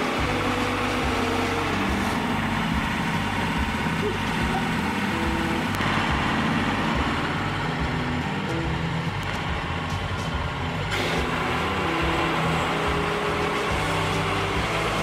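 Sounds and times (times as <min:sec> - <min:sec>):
band saw cutting log: 0:00.0 - 0:15.0
gas engine running under load: 0:00.0 - 0:15.0.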